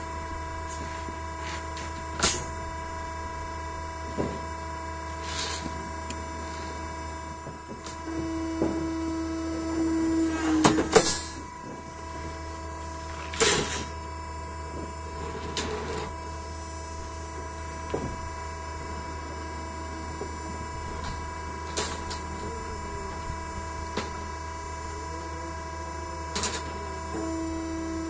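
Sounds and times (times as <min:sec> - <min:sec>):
rebar cutting machine motor hum: 0:00.0 - 0:28.0.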